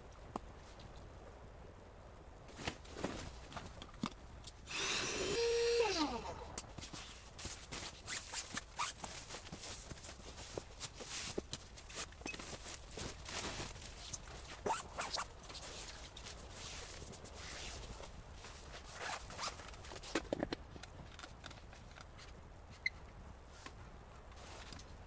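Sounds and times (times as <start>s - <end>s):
camping gear rustling and scraping: 2.4s - 25.0s.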